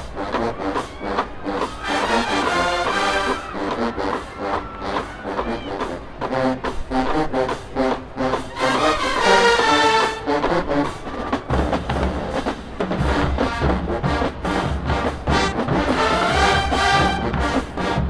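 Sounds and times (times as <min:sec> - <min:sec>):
bass drums and sousaphones: 0:00.0 - 0:18.0
marching band brass: 0:00.0 - 0:18.0.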